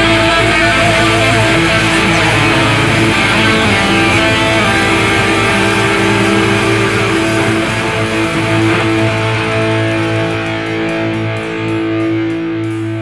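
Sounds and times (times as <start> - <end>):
rock music with electric guitars: 0.0 - 13.0.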